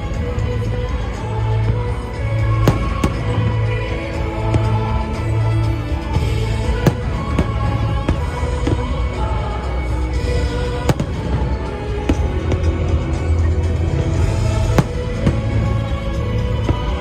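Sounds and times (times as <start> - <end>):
music: 0.0 - 17.0
fireworks bangs: 2.0 - 9.4, 10.3 - 17.0.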